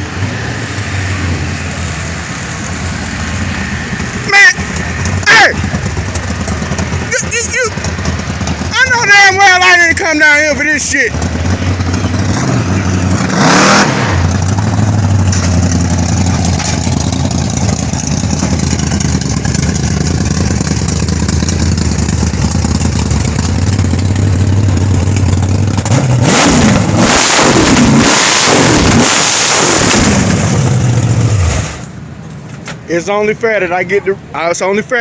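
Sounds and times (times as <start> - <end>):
race car engine revving: 0.0 - 31.9.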